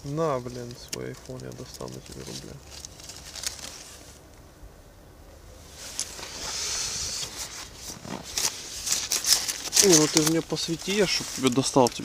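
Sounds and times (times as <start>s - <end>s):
soft hiss: 0.0s - 12.0s
clothing rustling: 0.6s - 4.2s, 5.7s - 12.0s.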